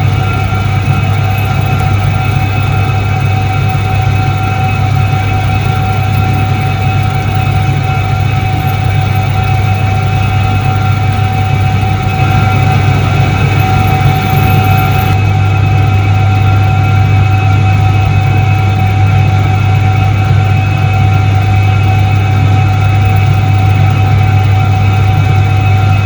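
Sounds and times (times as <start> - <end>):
washing machine motor hum: 0.0 - 26.0.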